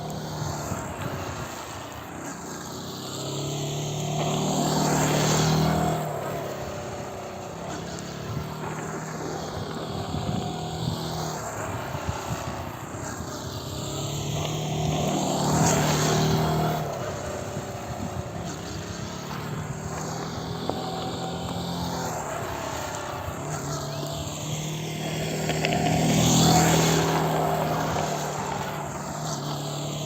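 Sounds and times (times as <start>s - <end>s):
motorcycle engine running: 0.0s - 30.0s
wide rushing hiss: 0.0s - 30.0s.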